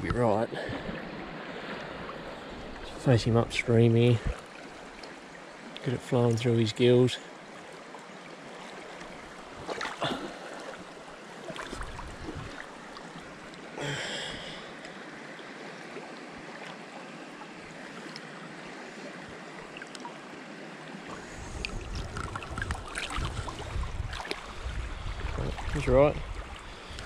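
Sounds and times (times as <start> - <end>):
river current flowing: 0.0 - 27.0
water splashes: 0.0 - 27.0.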